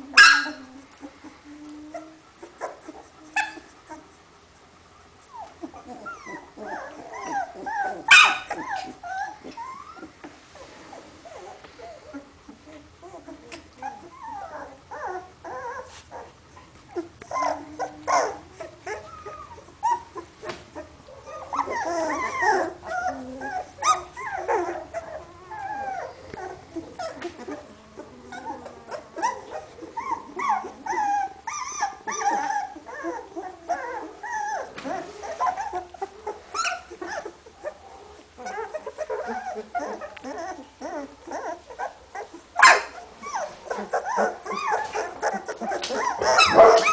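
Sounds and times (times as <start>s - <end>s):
puppies whimpering: 0.0s - 4.3s, 5.0s - 46.9s.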